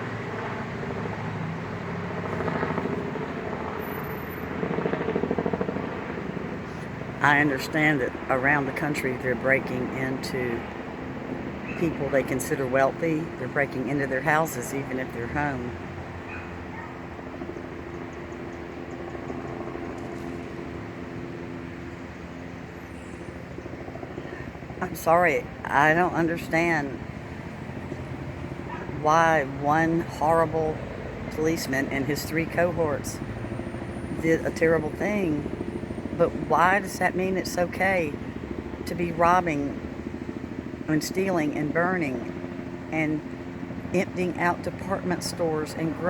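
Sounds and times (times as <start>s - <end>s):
helicopter rotor blades beating: 0.0s - 46.0s.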